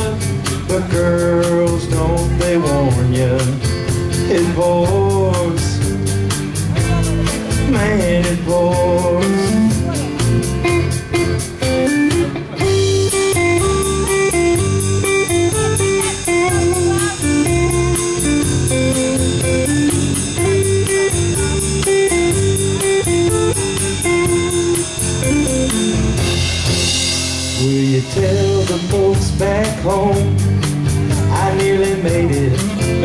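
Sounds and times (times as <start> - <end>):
rock band playing: 0.0 - 33.0.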